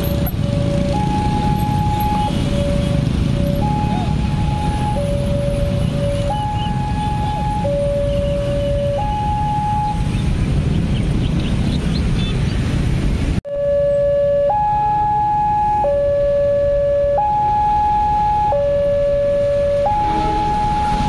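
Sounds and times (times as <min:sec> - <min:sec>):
two-tone level crossing alarm: 0:00.0 - 0:10.0, 0:13.5 - 0:21.0
road traffic: 0:00.0 - 0:21.0.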